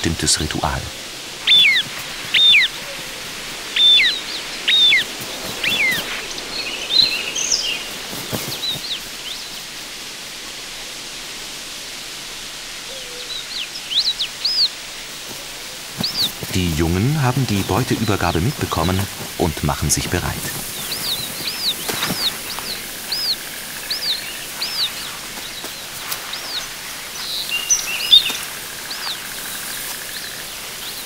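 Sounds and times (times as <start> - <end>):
steady outdoor hiss: 0.0 - 31.0
birds whistling calls: 1.4 - 9.6, 12.9 - 14.8, 15.4 - 31.0.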